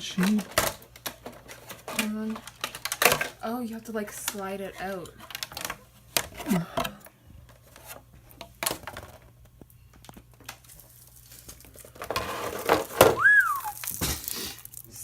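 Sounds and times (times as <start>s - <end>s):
plastic rustling and scraping: 0.0s - 15.0s.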